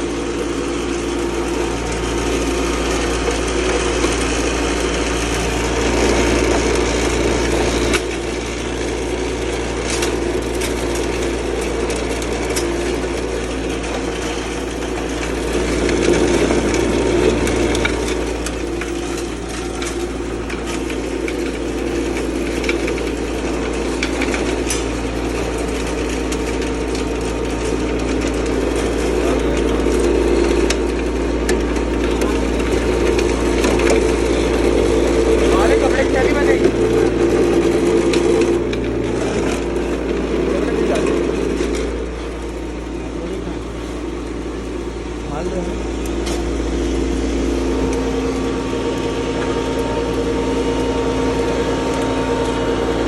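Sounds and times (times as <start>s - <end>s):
grinder motor hum: 0.0s - 53.0s.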